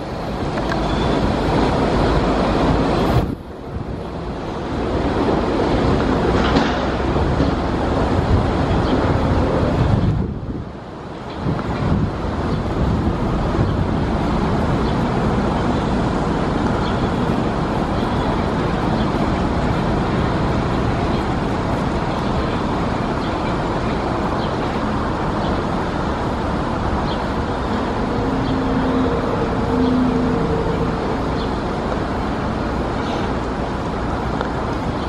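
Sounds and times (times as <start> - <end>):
road traffic noise: 0.0 - 35.0
subway train rumbling on tracks: 0.0 - 35.0.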